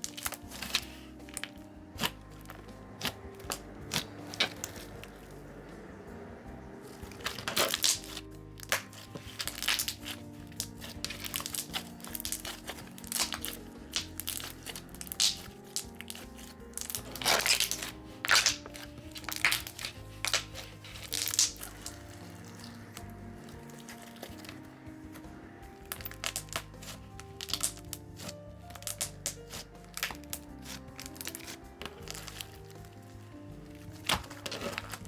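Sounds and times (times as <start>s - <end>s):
slime squishing and popping: 0.0s - 5.7s, 6.8s - 35.0s
soft background music: 0.0s - 35.0s.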